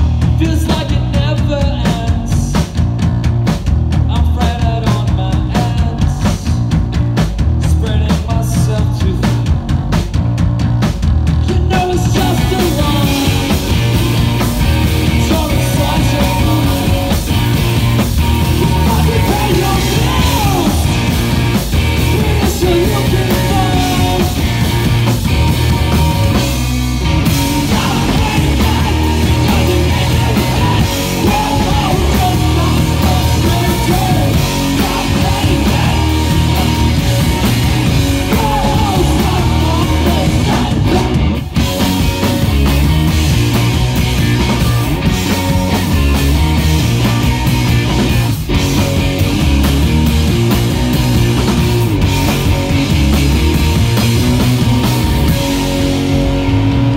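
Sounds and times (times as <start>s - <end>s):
punk rock band playing: 0.0s - 56.9s.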